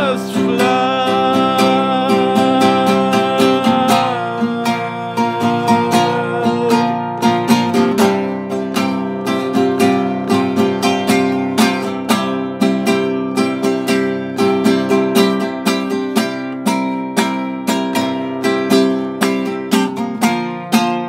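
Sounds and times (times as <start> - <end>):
classical guitar strummed: 0.0 - 21.0.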